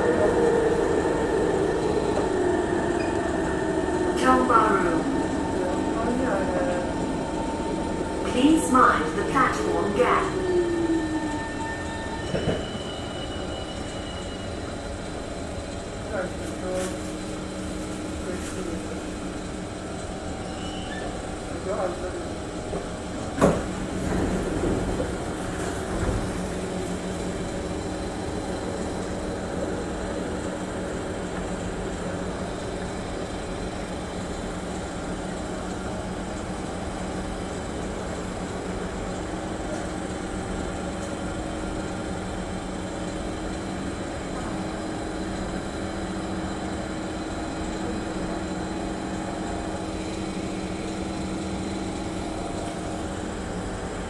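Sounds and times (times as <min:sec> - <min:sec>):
standing train hum: 0:00.0 - 0:54.0.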